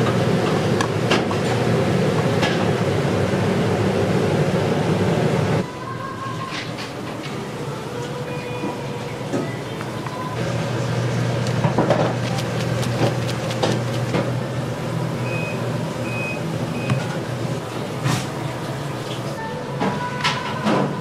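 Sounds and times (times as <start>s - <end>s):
kitchen equipment hum: 0.0s - 19.4s.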